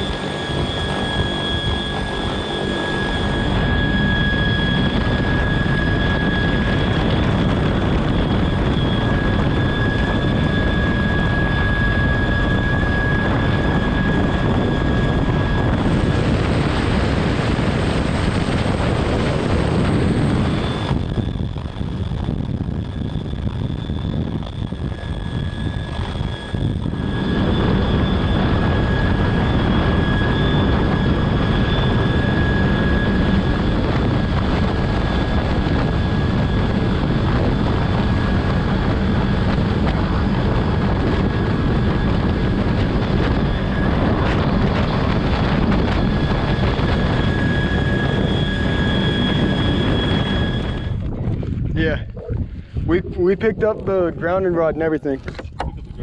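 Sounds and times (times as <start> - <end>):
high whines: 0.0 - 55.2
helicopter rotor and turbine noise: 0.0 - 56.0.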